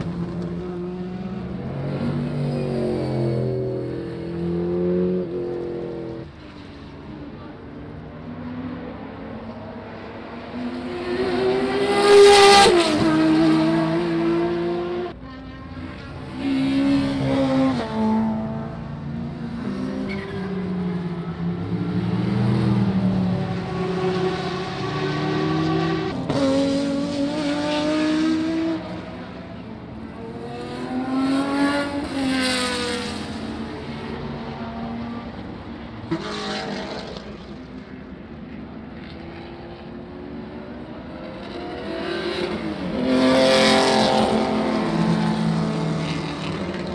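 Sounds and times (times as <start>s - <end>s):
racing car engines passing: 0.0s - 46.9s.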